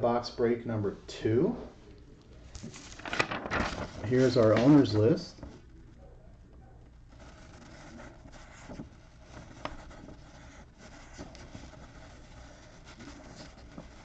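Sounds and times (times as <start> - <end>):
faint rustling and handling: 1.3 - 14.0.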